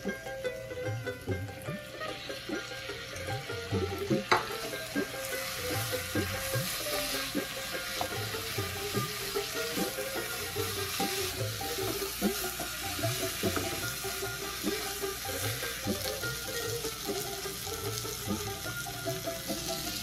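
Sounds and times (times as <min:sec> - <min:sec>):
fat sizzling in hot oil: 0:00.0 - 0:20.0
wooden spatula turning food: 0:03.8 - 0:20.0.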